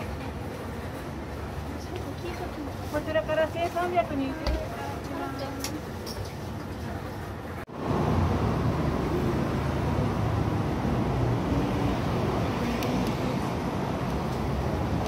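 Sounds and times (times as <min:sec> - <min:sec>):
cars passing on a city street: 0:00.0 - 0:15.0.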